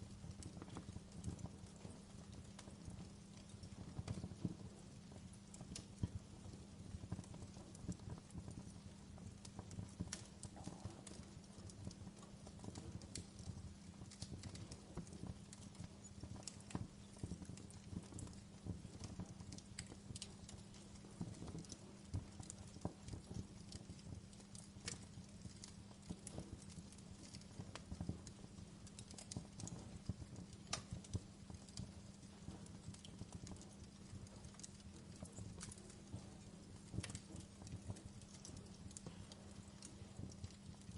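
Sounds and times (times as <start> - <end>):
logs crackling and popping: 0.0 - 40.9
low rumble of fire: 0.0 - 40.9.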